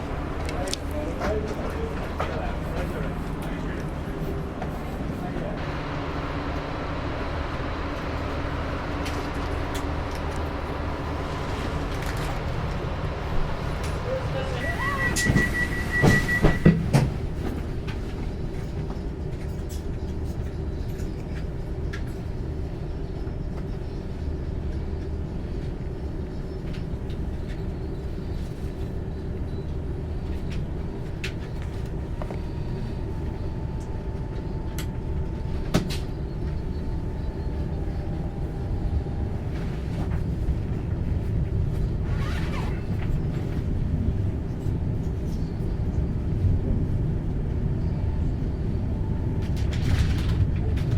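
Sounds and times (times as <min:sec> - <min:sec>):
train rumbling: 0:00.0 - 0:50.9.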